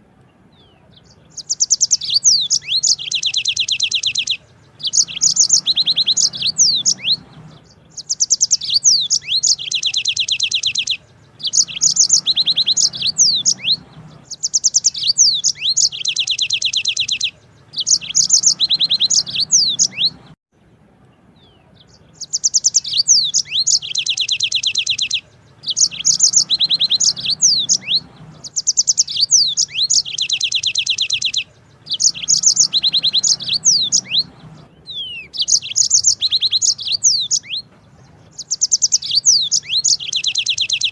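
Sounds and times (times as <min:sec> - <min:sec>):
canary singing trills: 0:00.0 - 0:20.4, 0:21.2 - 0:40.9.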